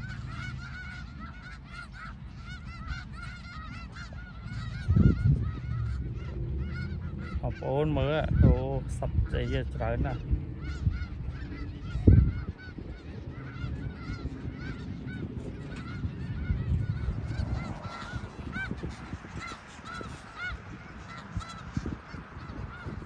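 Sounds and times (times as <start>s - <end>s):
geese honking: 0.0s - 23.0s
low rumble: 0.0s - 23.0s.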